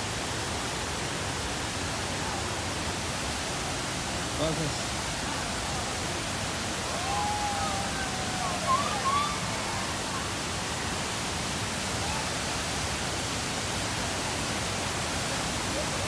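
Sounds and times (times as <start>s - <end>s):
waterfall and river rapids: 0.0s - 16.0s.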